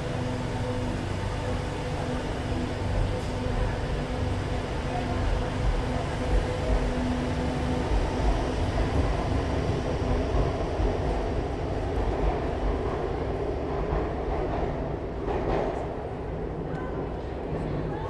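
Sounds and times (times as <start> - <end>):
metro train rumble and rattle: 0.0 - 18.0.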